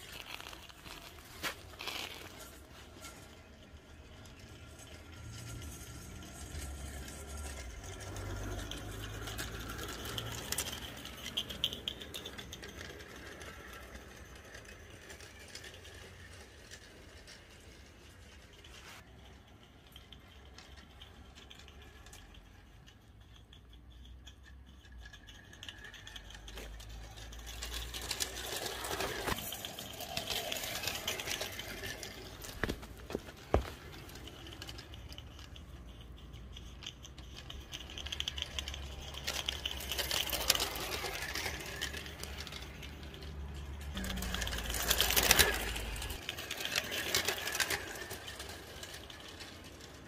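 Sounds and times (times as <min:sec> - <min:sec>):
model steam locomotive rattling: 0:00.0 - 0:50.0
wheels clicking on rail: 0:00.0 - 0:50.0.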